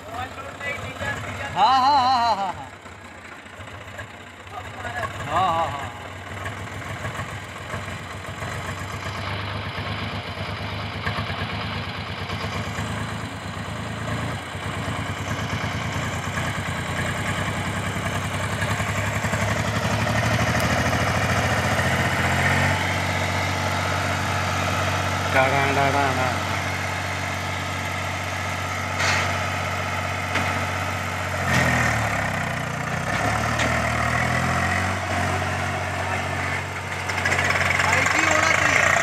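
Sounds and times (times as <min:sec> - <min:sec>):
diesel engines running: 0:00.0 - 0:39.0.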